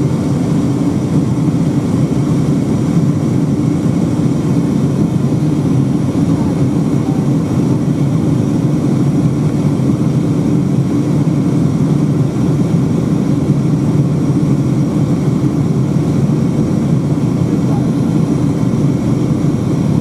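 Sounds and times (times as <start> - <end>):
aircraft cabin engine drone: 0.0 - 20.0.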